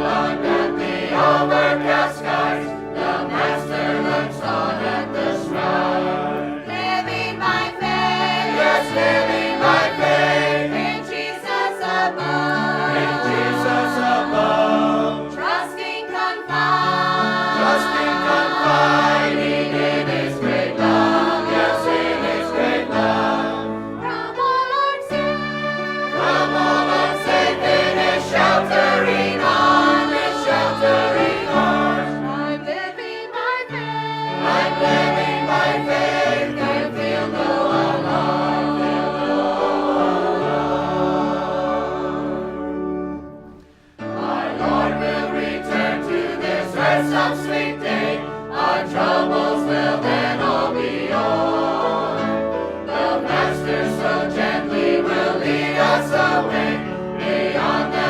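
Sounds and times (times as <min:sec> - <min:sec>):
choir singing a gospel hymn: 0:00.0 - 0:58.0
instrumental accompaniment: 0:00.0 - 0:58.0.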